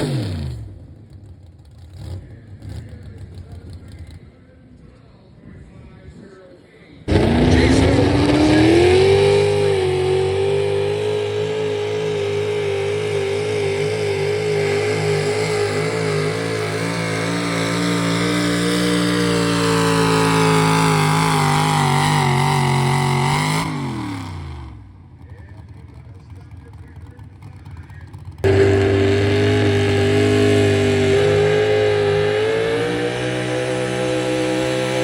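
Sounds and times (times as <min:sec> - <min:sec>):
truck engine at full throttle: 0:00.0 - 0:04.3, 0:07.1 - 0:35.0.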